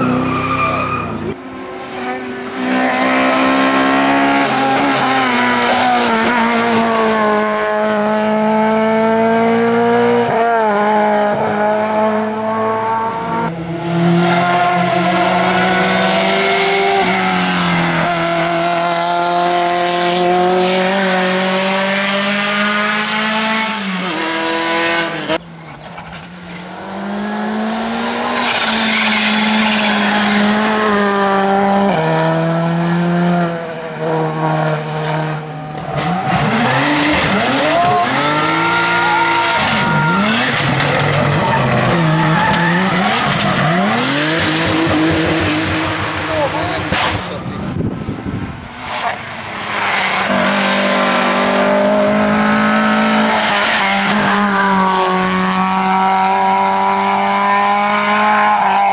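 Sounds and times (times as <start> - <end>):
race car engines revving: 0.0 - 58.9.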